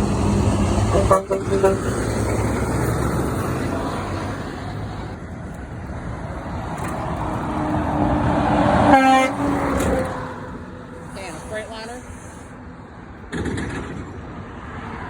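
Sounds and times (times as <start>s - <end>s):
road traffic: 0.0s - 15.0s
truck passing: 0.0s - 15.0s.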